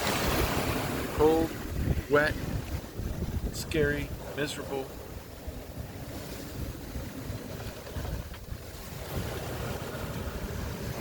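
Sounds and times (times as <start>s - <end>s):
waves washing around boat: 0.0s - 11.0s
wind buffeting microphone: 0.0s - 11.0s.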